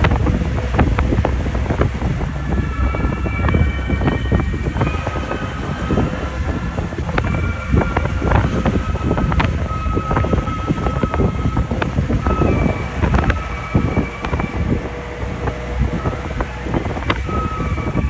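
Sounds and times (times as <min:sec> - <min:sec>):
engine and road rumble: 0:00.0 - 0:18.0
wind buffeting microphone: 0:00.0 - 0:18.0.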